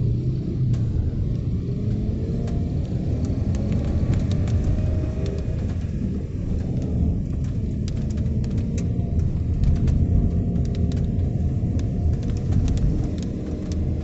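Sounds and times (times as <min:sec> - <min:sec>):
light rain ticking: 0:00.0 - 0:14.0
low vehicle rumble: 0:00.0 - 0:14.0.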